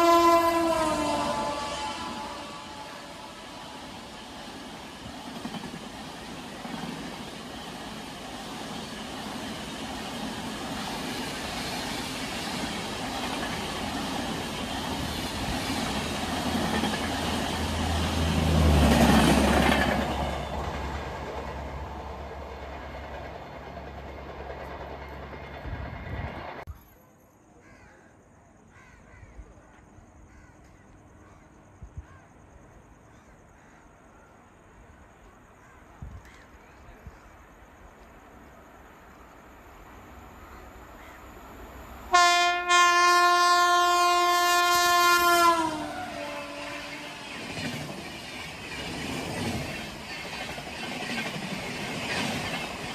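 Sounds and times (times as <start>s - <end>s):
train wheels rushing on rail: 0.0s - 26.7s, 35.2s - 52.9s.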